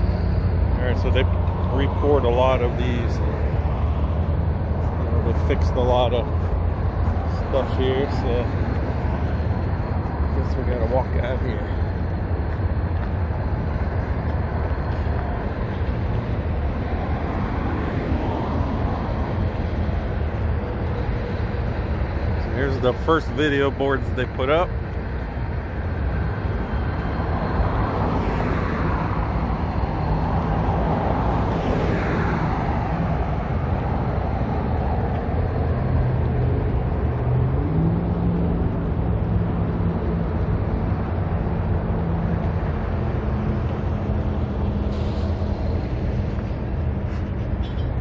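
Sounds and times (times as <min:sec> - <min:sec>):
low engine drone: 0:00.0 - 0:48.0
vehicles whooshing past: 0:00.0 - 0:48.0.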